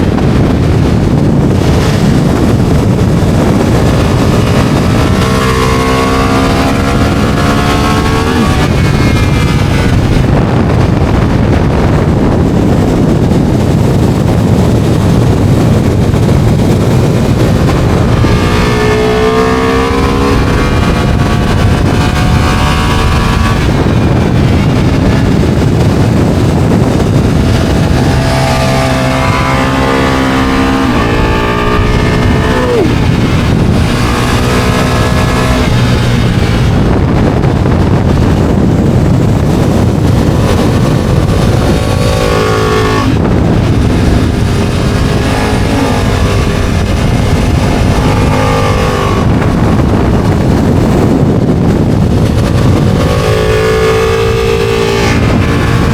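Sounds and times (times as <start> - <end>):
motorcycle engine revving: 0.0 - 55.9
wind rush on microphone: 0.0 - 55.9.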